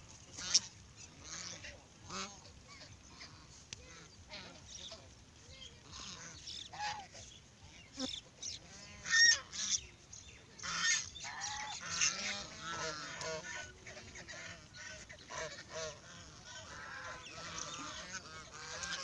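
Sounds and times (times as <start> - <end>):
geese honking: 0.3 - 10.0, 10.6 - 19.0.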